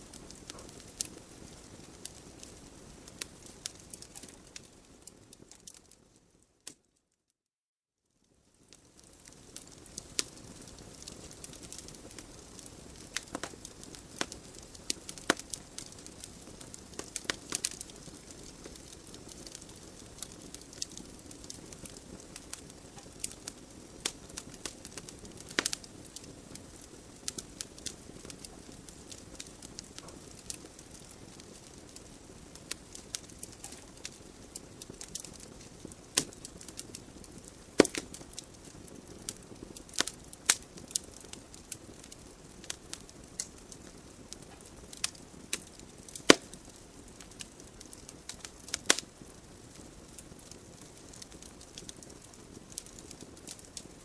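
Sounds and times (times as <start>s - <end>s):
hiss of fireplace flames: 0.0s - 6.5s, 8.3s - 54.0s
logs crackling and popping: 0.0s - 6.8s, 8.5s - 54.0s.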